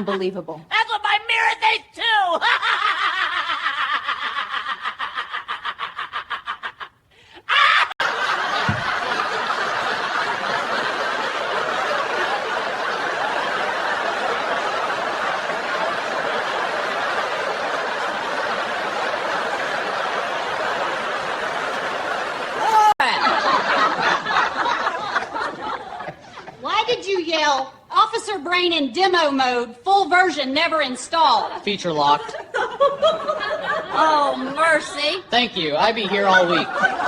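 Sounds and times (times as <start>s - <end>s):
group laughter: 2.2s - 26.7s, 31.5s - 37.0s.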